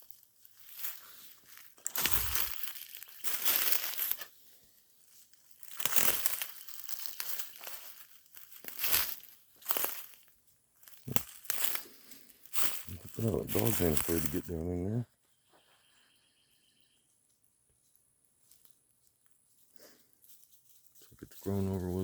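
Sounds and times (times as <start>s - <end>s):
dry leaves and brush crunching: 0.0s - 14.8s, 17.8s - 22.0s.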